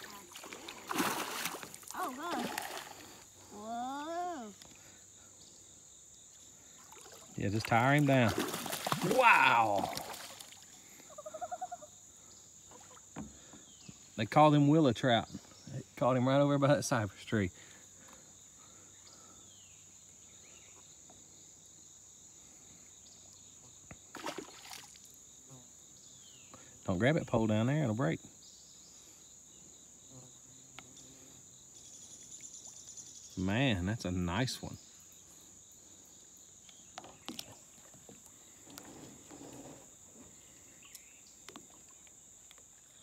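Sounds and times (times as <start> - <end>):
high-pitched insect chorus: 0.0 - 43.0.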